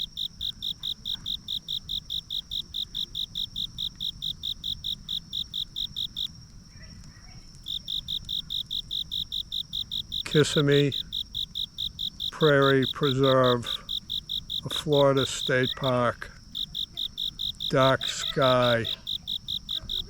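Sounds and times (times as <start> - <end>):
cricket chirping: 0.0 - 20.0
high insect trill: 0.0 - 20.0.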